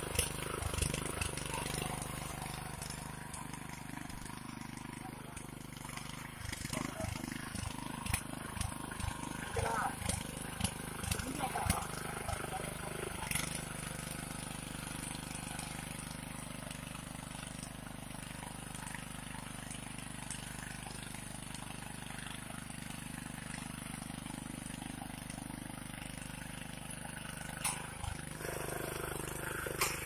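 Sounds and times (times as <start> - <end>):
small engine running steadily: 0.0 - 30.0.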